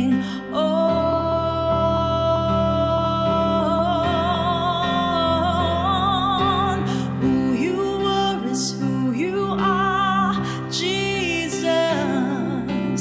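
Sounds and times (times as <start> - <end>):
woman singing worship song: 0.0 - 13.0.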